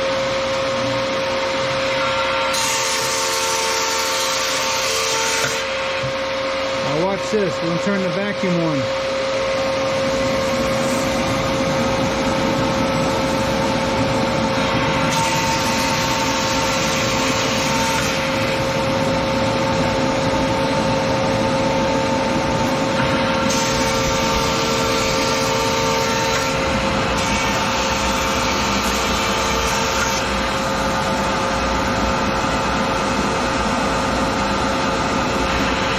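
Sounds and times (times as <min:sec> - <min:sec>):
planer whining: 0:01.5 - 0:33.6.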